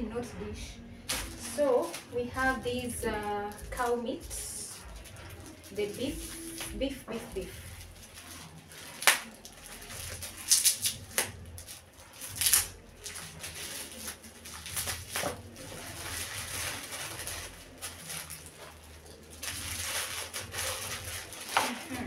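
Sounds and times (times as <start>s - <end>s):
wrapping rustling and crinkling: 0.2s - 22.0s.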